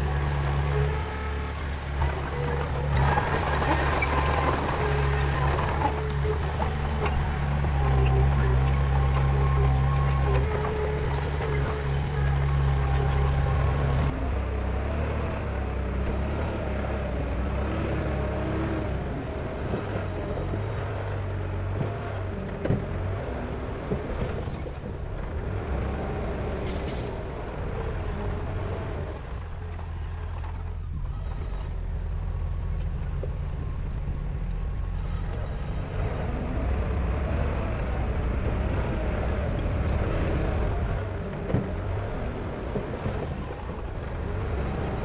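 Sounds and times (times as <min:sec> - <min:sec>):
diesel engine under load: 0:00.0 - 0:45.0.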